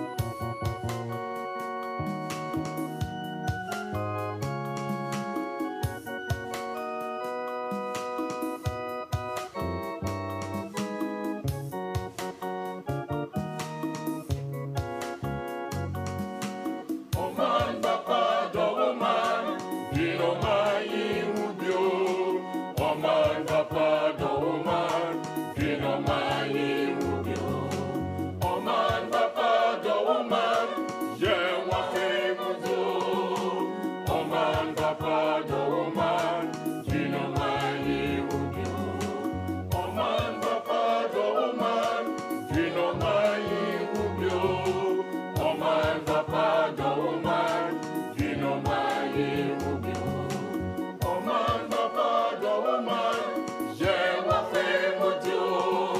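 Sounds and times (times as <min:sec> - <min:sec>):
gospel choir singing over beat: 0:00.0 - 0:55.9.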